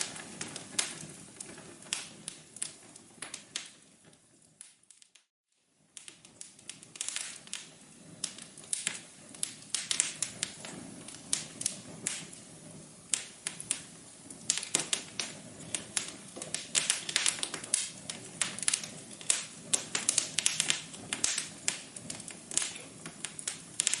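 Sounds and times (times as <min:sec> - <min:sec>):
low hiss of burning: 0:00.0 - 0:24.0
wood fire popping and snapping: 0:00.0 - 0:24.0.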